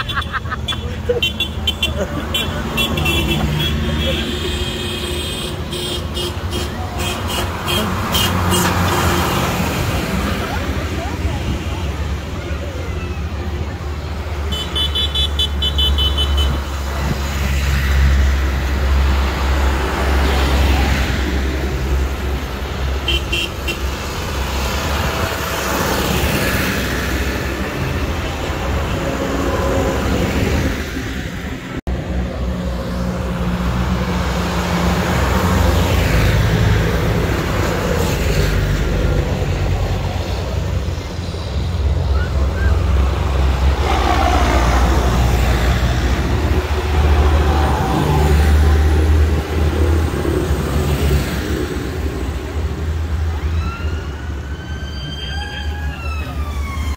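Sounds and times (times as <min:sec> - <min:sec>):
tractor diesel engines driving past: 0:00.0 - 0:56.9.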